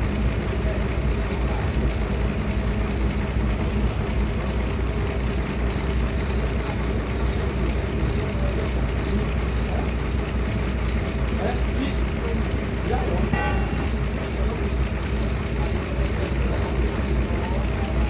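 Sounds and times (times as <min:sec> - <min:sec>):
sawmill machinery droning: 0:00.0 - 0:18.0.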